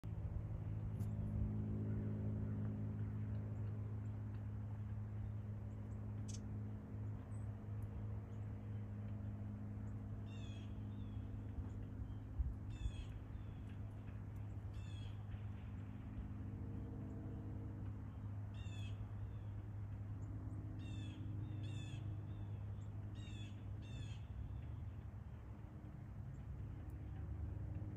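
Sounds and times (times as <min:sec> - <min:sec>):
low mechanical hum: 0:00.0 - 0:27.9
steady low rumble: 0:00.0 - 0:27.9.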